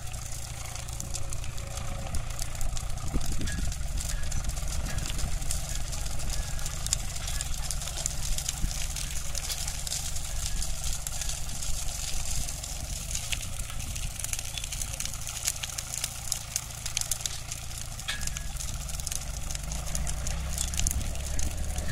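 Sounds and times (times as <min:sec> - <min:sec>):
brush fire crackling: 0:00.0 - 0:21.9
tractor diesel engine running: 0:00.0 - 0:21.9.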